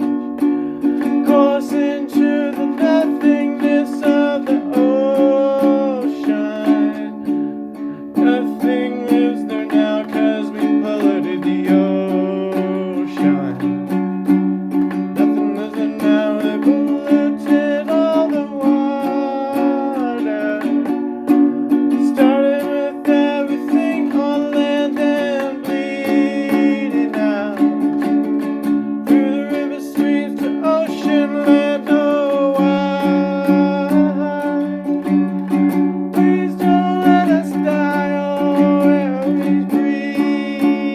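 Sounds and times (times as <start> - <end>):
wordless singing: 0.0 - 14.0, 15.1 - 21.1, 21.8 - 40.9
strummed plucked strings: 0.0 - 40.9.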